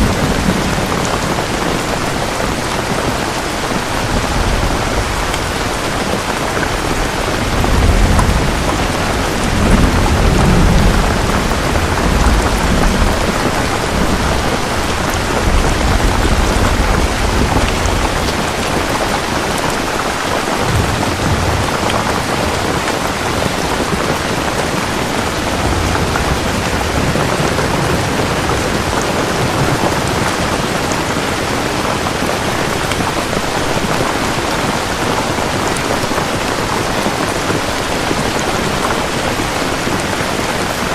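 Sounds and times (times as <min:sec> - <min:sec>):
rolling thunder: 0:00.0 - 0:34.9
steady rain: 0:00.0 - 0:40.9.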